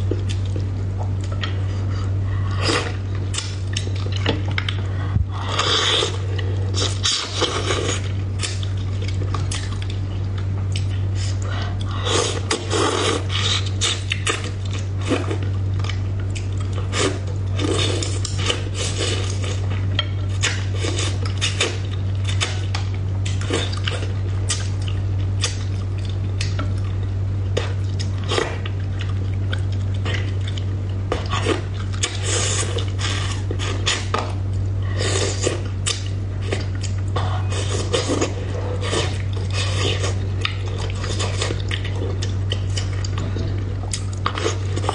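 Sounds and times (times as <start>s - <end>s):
low hum: 0.0s - 44.9s.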